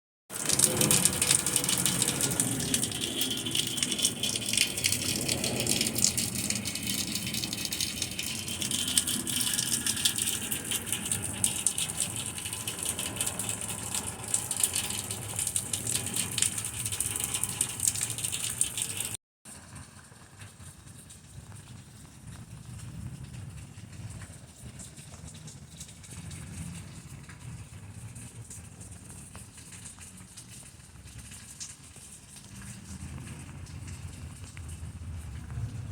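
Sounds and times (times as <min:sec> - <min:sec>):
heavy rain falling: 0:00.3 - 0:35.9.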